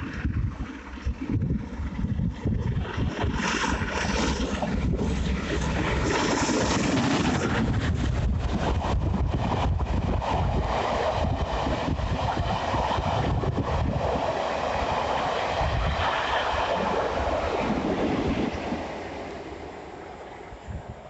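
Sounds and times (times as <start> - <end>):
wind noise on microphone: 0.0 - 19.6, 20.4 - 21.0
train wheels rumbling on rails: 0.0 - 21.0.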